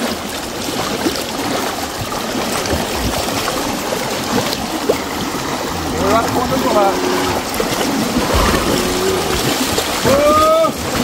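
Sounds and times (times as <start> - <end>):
cattle splashing through water: 0.0 - 11.0
water rushing: 0.0 - 11.0.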